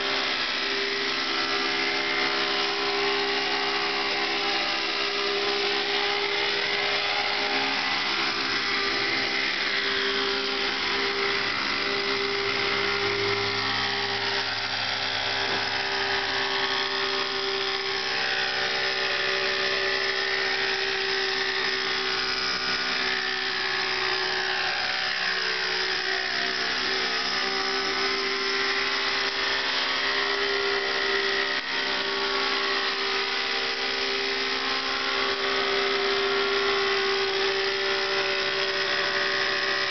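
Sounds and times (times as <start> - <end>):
model helicopter engine and rotors: 0.0 - 39.9.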